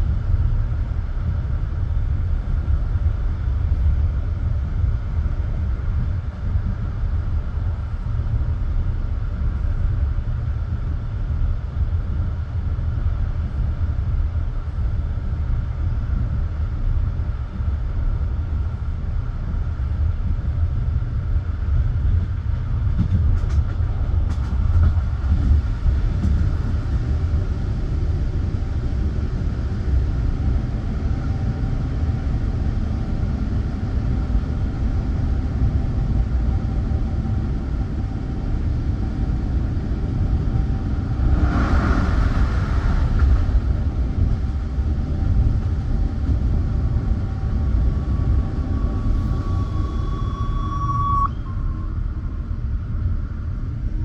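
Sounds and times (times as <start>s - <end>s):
railway carriage rumbling: 0.0s - 54.0s.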